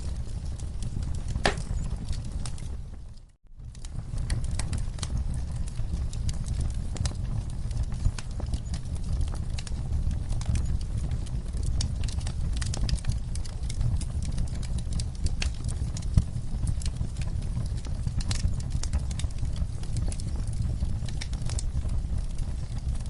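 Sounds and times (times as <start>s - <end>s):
low rumble of flames: 0.0s - 23.0s
wood fire crackling and popping: 0.0s - 23.0s.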